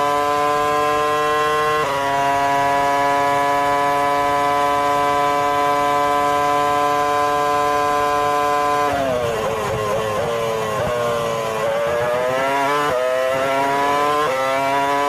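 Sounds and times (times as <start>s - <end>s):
engine at high revs: 0.0s - 15.0s.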